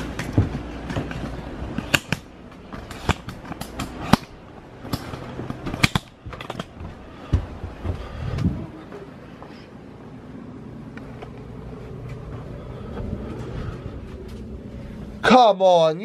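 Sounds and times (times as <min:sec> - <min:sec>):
footsteps going down stairs: 0:00.0 - 0:10.1, 0:10.8 - 0:15.2.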